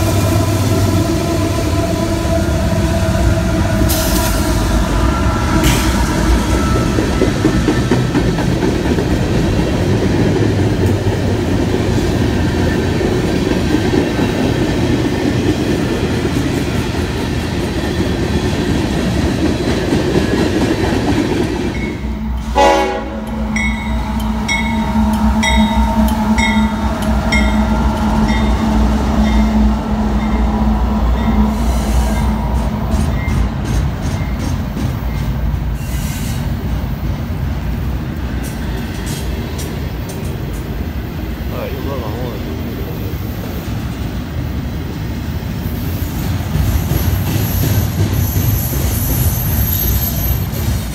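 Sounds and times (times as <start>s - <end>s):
freight train cars rumbling past: 0.0s - 50.9s.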